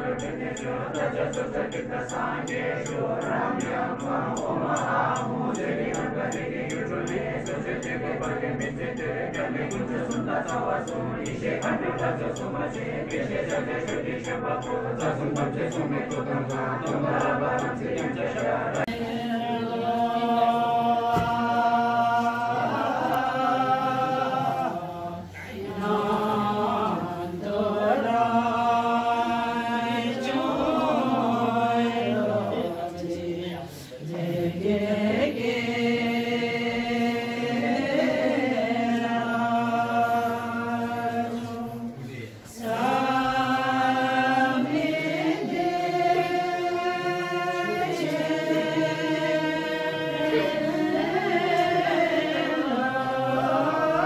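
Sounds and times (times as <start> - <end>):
women chanting in unison: 0.0 - 54.0.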